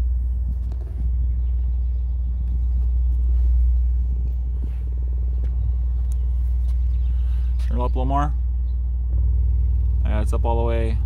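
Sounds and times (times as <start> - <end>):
deep subwoofer drone with buzz: 0.0 - 11.0.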